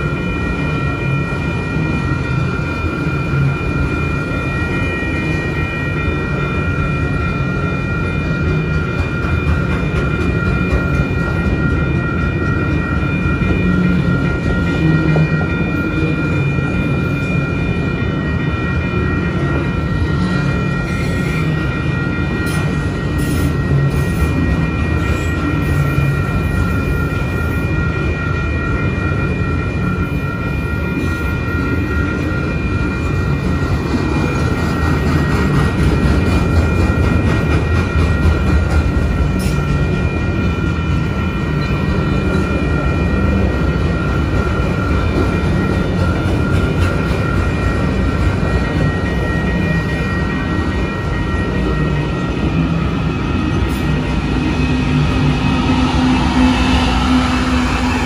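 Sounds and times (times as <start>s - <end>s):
steady high tones: 0.0s - 58.0s
train wheels rumbling on rail: 0.0s - 58.0s.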